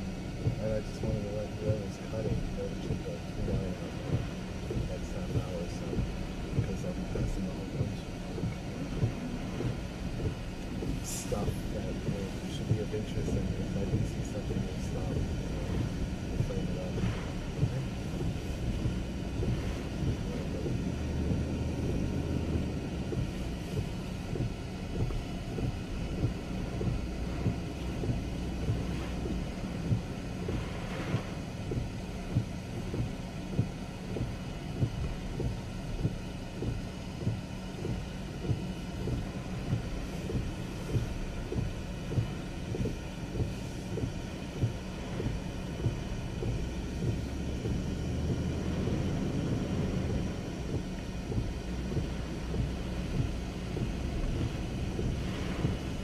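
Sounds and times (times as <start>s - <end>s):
car engine and road drone: 0.0s - 56.0s
rain and wind on car body: 0.0s - 56.0s
windshield wipers knocking: 0.0s - 56.0s.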